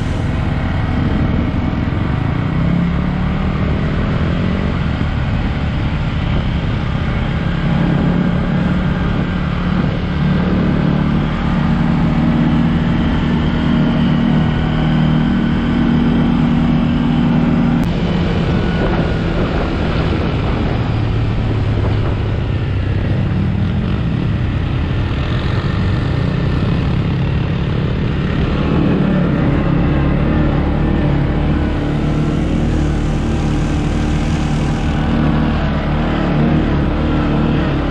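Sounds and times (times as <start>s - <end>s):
atv engine running: 0.0s - 37.9s
rushing noise: 0.0s - 37.9s.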